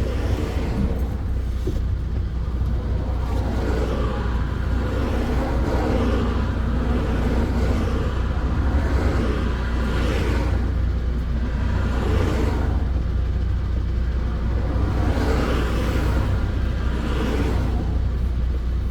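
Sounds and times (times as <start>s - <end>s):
road noise: 0.0s - 18.9s
truck diesel engine droning: 0.0s - 18.9s.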